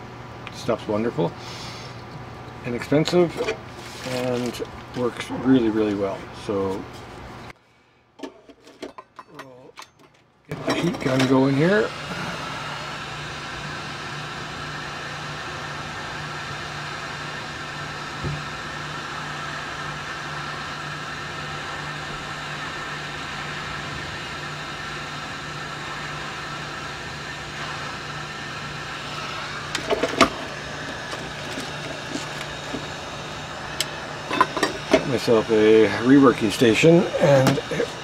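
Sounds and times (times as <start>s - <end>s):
heat gun fan humming: 0.0s - 7.6s, 9.8s - 38.0s.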